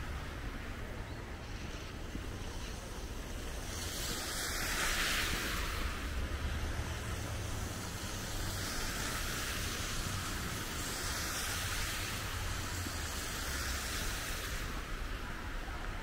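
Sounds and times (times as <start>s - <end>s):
passing traffic hiss: 0.0s - 16.0s.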